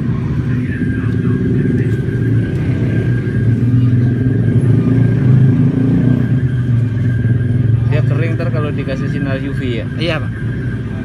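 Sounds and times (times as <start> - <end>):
traffic engine rumble: 0.0 - 11.0.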